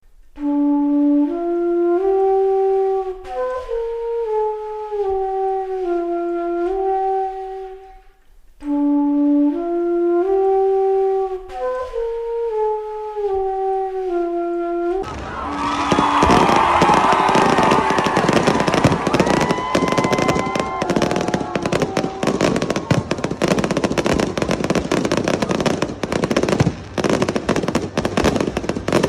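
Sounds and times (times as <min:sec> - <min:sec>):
slow wind instrument melody: 0:00.1 - 0:29.0.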